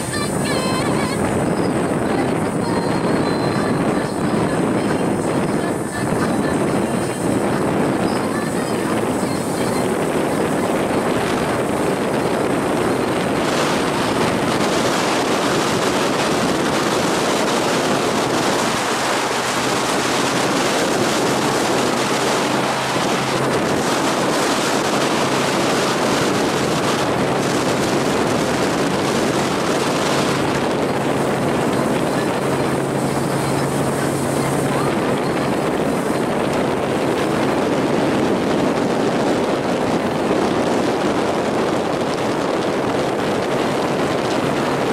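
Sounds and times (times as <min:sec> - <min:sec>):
boat engine drone: 0:00.0 - 0:44.9
rush of wake water: 0:00.0 - 0:44.9
wind on microphone: 0:00.0 - 0:44.9.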